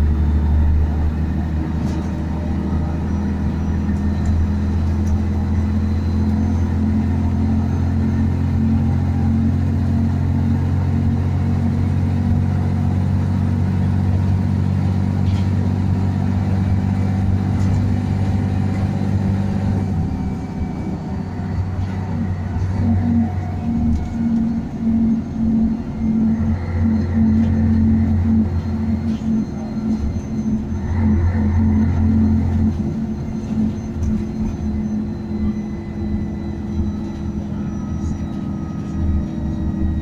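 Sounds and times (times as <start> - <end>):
bus diesel engine: 0.0 - 40.0
road rumble: 0.0 - 40.0.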